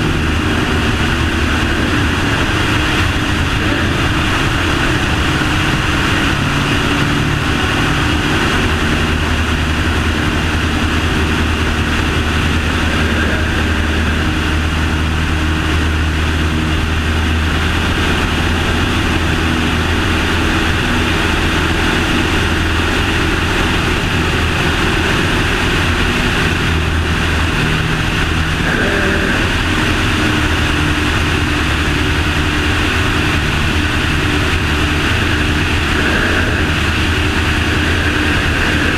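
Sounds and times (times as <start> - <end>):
aircraft engine and propeller droning: 0.0 - 38.9
wind rush: 0.0 - 38.9.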